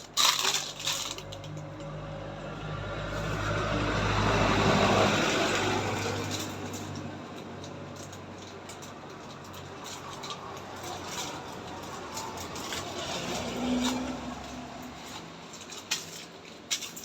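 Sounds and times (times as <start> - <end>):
road vehicle passing: 0.2 - 15.9.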